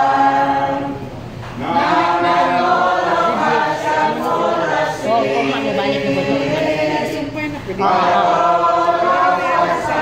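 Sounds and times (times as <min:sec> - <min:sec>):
group singing a hymn: 0:00.0 - 0:10.0.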